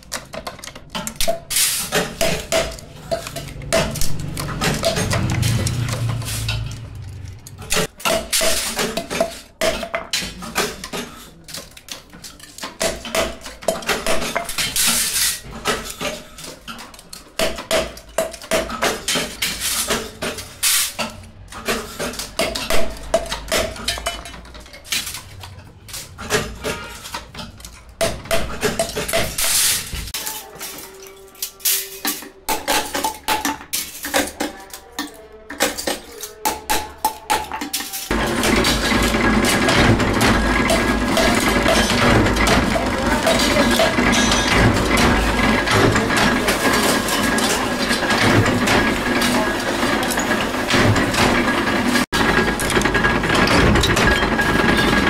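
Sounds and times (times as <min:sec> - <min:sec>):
metal parts and tools clinking: 0:00.0 - 0:55.0.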